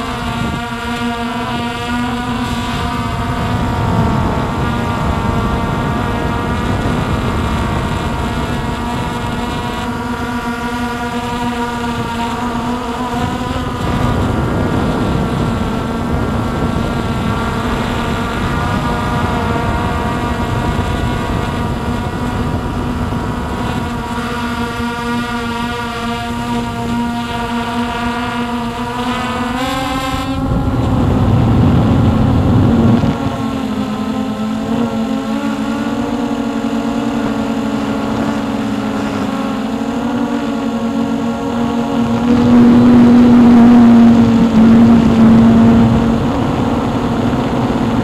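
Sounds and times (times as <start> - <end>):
drone motors whining: 0.0 - 48.0
wind on microphone: 0.0 - 48.0.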